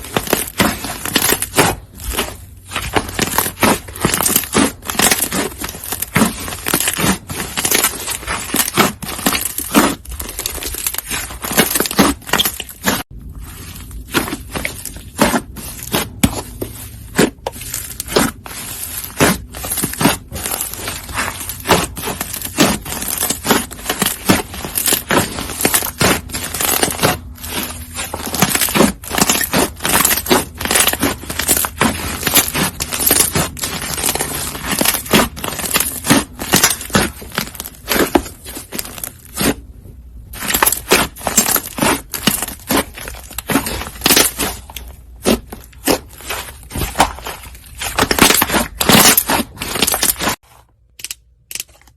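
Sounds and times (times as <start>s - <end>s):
slime crackling and popping: 0.0s - 50.4s.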